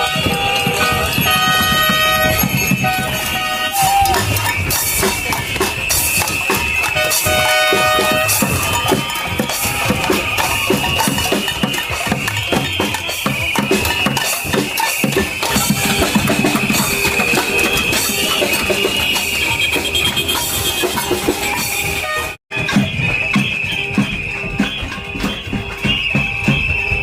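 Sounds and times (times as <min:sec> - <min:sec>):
rapid drumming and banging: 0:00.0 - 0:27.0
shrill wavering high tone: 0:00.0 - 0:27.0.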